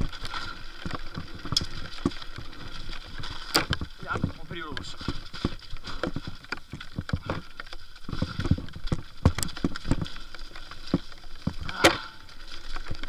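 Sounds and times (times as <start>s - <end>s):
mountain bike rattling over trail: 0.0s - 13.0s.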